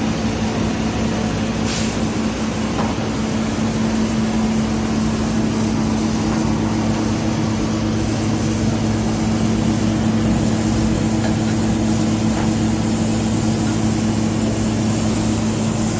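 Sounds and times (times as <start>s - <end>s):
diesel engine humming: 0.0s - 15.9s.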